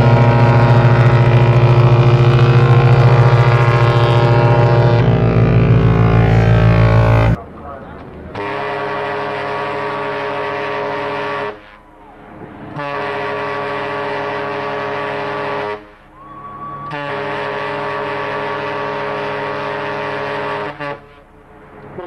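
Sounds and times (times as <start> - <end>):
ship's horn blasts: 0.0 - 7.4, 8.3 - 12.0, 12.6 - 22.0.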